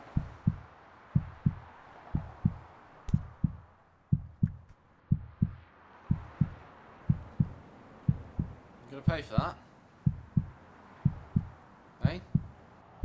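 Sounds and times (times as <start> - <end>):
slow heartbeat thumps: 0.0 - 12.6.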